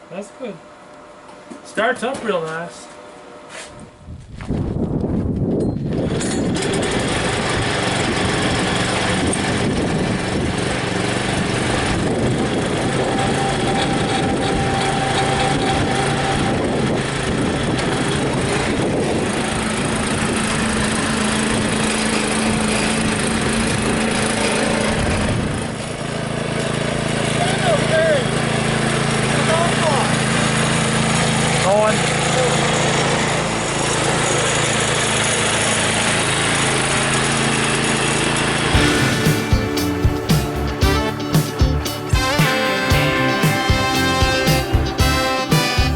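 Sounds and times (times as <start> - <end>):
small engine running steadily: 4.8 - 45.9.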